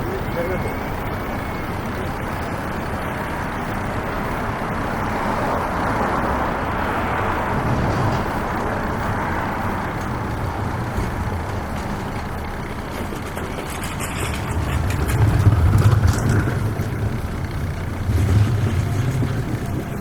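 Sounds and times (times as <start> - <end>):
loud vehicle rumbling past: 0.0 - 20.0
passing vehicles: 0.0 - 20.0.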